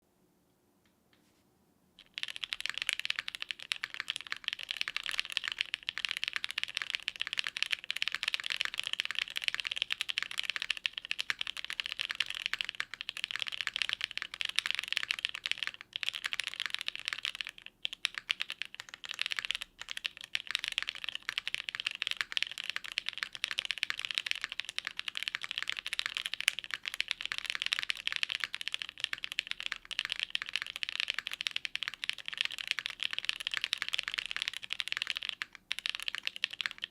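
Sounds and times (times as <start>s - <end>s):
mechanical keyboard typing: 2.0s - 36.9s.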